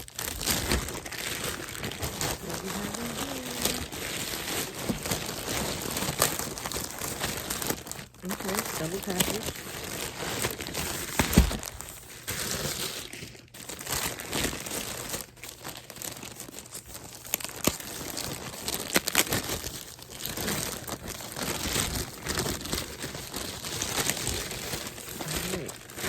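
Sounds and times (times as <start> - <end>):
packaging crinkling: 0.0 - 26.0.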